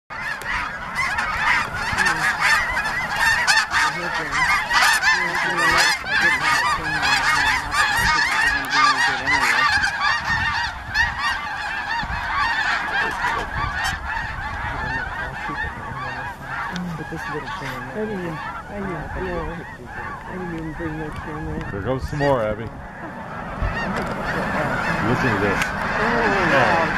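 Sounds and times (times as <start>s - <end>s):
flock of geese honking: 0.1s - 26.9s.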